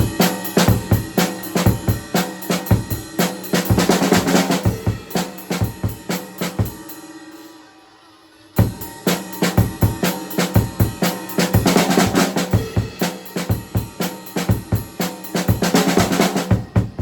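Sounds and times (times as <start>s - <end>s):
drum kit playing: 0.0s - 7.5s, 8.6s - 17.0s.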